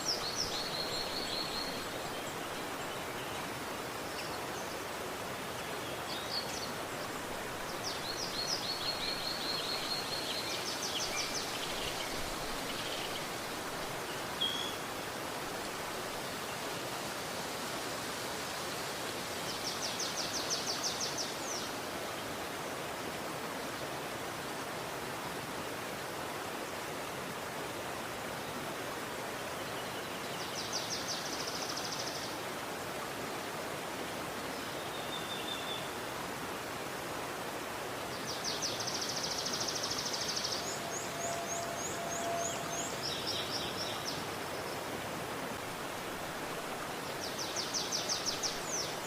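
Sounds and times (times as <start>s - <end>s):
river rushing: 0.0s - 49.0s.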